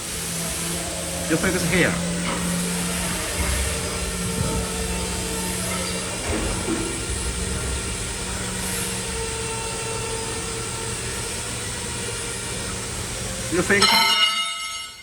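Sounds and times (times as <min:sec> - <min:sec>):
machinery droning: 0:00.0 - 0:15.0.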